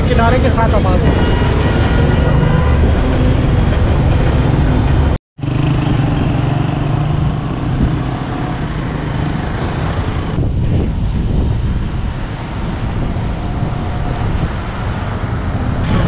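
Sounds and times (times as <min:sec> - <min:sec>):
low traffic hum: 0:00.0 - 0:16.0
vehicles passing: 0:00.0 - 0:16.0.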